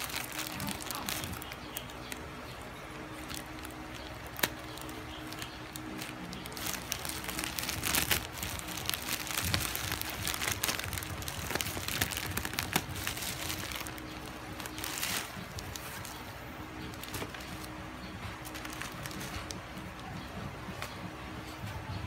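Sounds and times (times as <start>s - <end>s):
plastic bag and bubble wrap crinkling: 0.0s - 21.1s.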